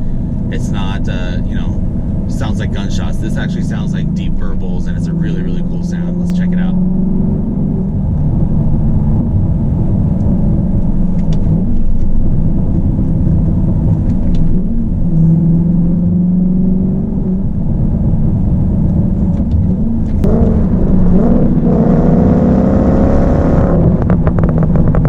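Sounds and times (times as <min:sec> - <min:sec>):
car engine rumbling and burbling: 0:00.0 - 0:25.0.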